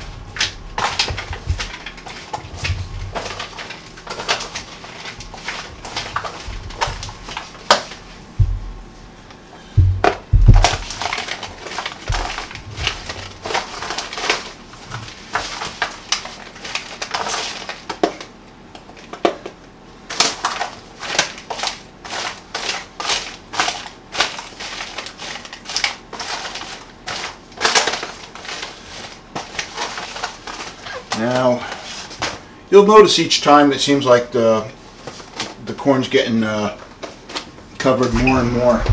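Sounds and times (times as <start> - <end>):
popcorn stirred in foil pan: 0.0 - 8.3, 10.6 - 19.4, 20.0 - 38.9.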